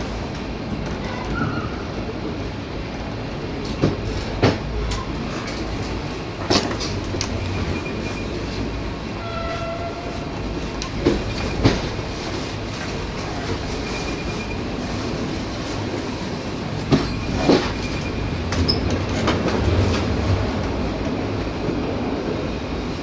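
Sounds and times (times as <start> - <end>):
train coach rumbling: 0.0 - 23.0.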